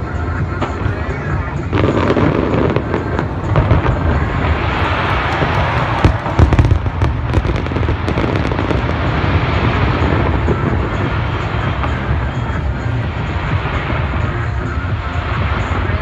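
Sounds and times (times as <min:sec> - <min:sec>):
fireworks bursting: 0:00.0 - 0:16.0
sharp bangs and crackles: 0:00.0 - 0:16.0.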